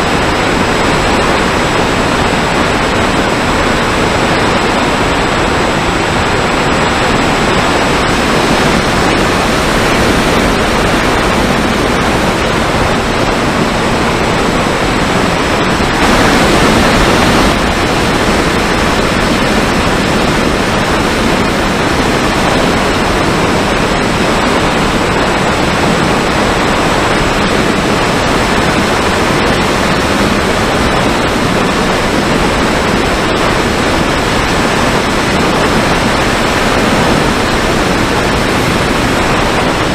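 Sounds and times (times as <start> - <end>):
airflow and propeller noise: 0.0 - 39.9.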